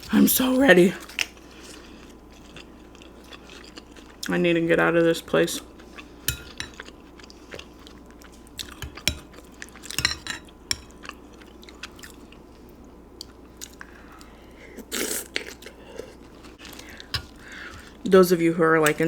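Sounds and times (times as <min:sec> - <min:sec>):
person chewing: 0:01.0 - 0:04.3, 0:05.6 - 0:18.0.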